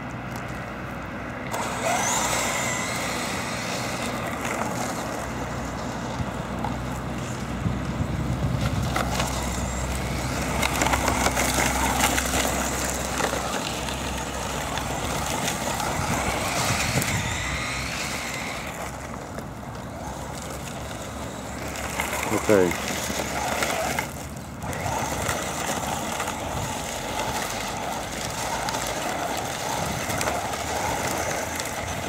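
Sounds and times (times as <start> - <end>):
tyres crunching on gravel: 0.0 - 32.0
electric motor whine: 1.4 - 32.0.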